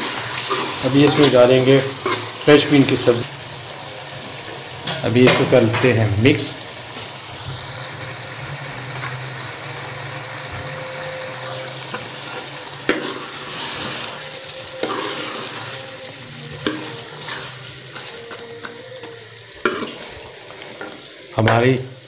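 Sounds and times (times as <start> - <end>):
food sizzling in metal pot: 0.0 - 22.0.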